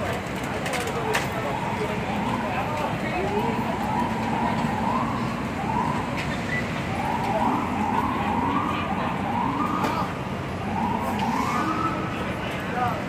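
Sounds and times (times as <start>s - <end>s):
low street din: 0.0s - 13.0s
emergency siren rising sweeps: 1.3s - 13.0s.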